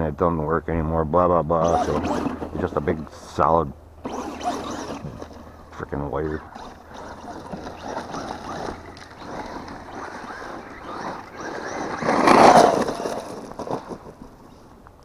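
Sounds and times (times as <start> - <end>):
tyre noise: 1.1 - 15.0
electric motor whine: 1.5 - 14.8.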